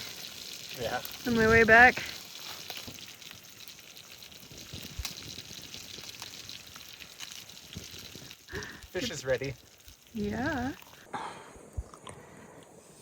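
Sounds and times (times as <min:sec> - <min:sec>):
fish sizzling in a pan: 0:00.0 - 0:11.1
small pops of frying: 0:00.0 - 0:11.1.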